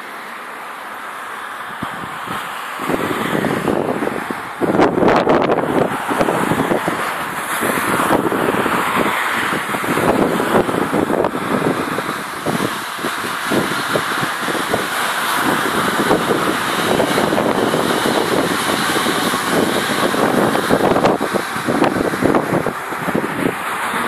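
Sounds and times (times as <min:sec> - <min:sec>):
wind buffeting microphone: 0:01.7 - 0:24.0
train wheels rushing on rail: 0:01.8 - 0:24.0.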